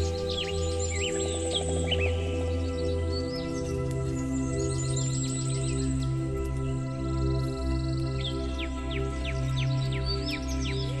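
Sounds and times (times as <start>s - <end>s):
calm ambient music with drone: 0.0s - 11.0s.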